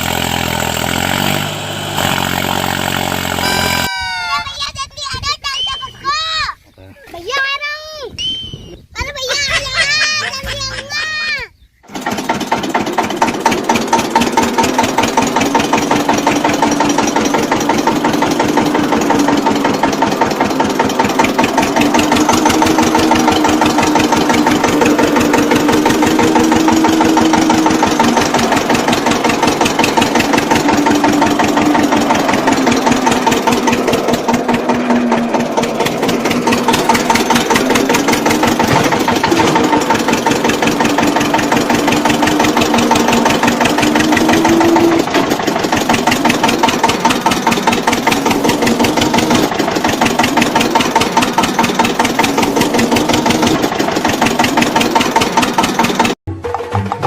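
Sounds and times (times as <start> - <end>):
small tractor engine running: 0.0 - 4.0, 9.3 - 57.0.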